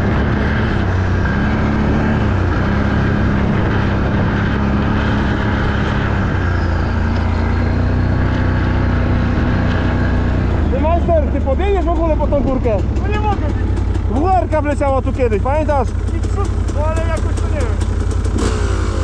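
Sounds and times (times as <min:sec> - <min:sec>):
engine running under load: 0:00.0 - 0:19.0.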